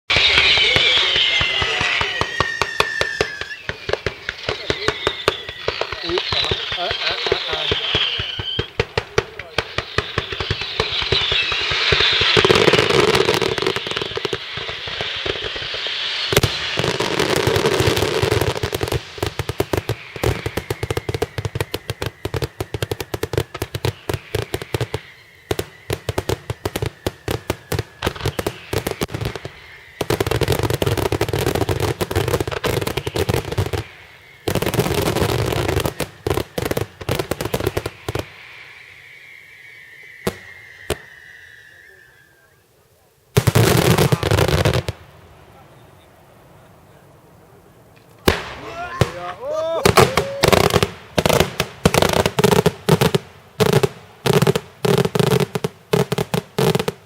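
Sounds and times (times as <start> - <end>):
firecrackers going off: 0.1 - 42.6, 43.3 - 57.0.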